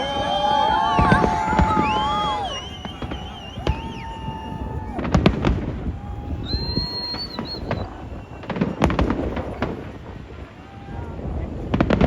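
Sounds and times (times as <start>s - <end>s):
firework whistle: 0.0s - 11.1s
fireworks bangs and crackles: 0.0s - 12.0s.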